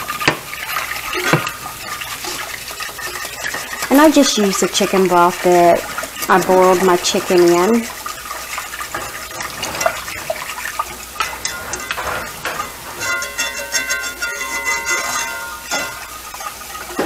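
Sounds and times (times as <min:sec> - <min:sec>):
liquid sloshing: 0:00.0 - 0:17.0
whisk scraping a skillet: 0:00.0 - 0:17.0.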